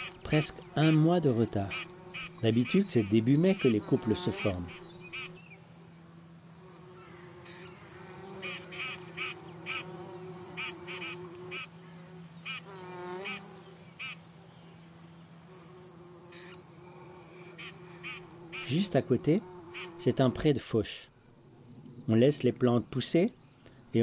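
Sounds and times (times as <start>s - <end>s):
high-pitched insect trill: 0.0s - 20.4s.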